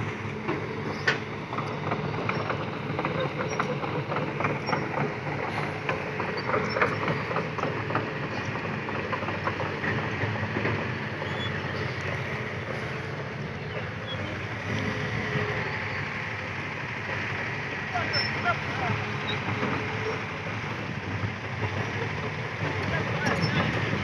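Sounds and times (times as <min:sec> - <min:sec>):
excavator diesel engine drone: 0:00.0 - 0:24.0.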